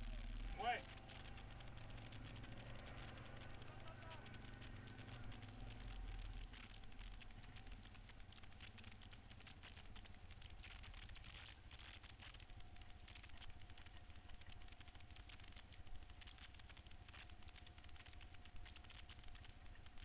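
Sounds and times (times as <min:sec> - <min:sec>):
quad bike engine rumble: 0:00.0 - 0:20.0.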